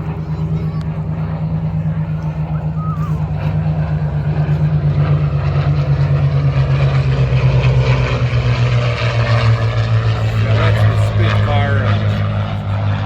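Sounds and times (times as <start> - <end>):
propeller airplane engine droning: 0.0 - 13.0.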